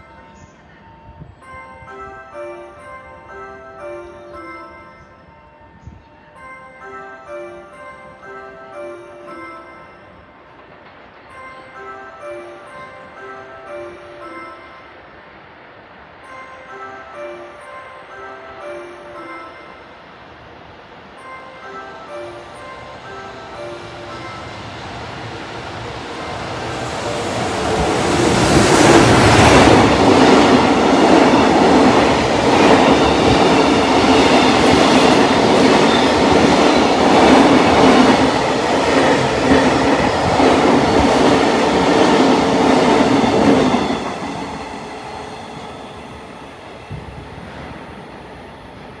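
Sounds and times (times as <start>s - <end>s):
electric locomotive approaching: 0.0s - 49.0s.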